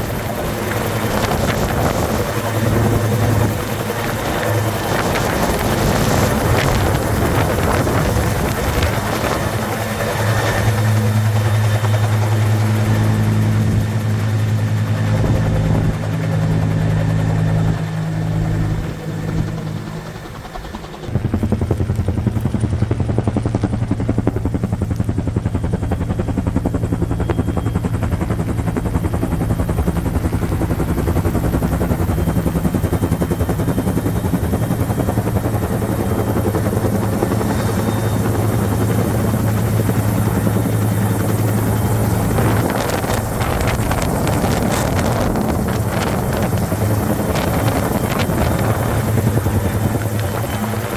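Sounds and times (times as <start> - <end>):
helicopter rotor and engine drone: 0.0 - 50.9.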